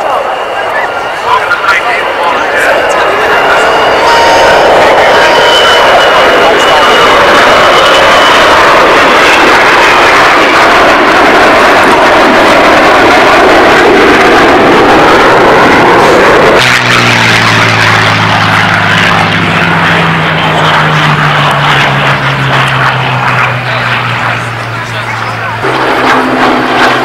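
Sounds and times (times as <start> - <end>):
jet engines roaring overhead: 0.0 - 27.0
propeller aircraft engine drone: 0.0 - 27.0.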